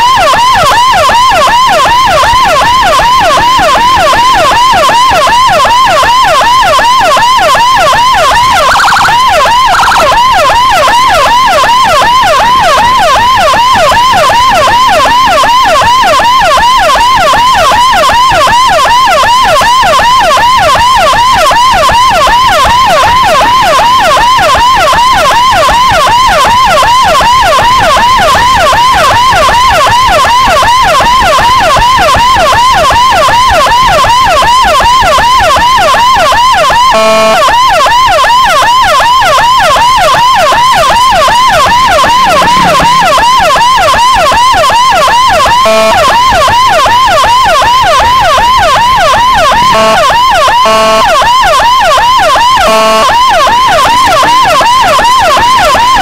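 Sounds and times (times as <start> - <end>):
electronic siren yelping: 0.0 - 56.0
short siren blasts: 0.0 - 56.0.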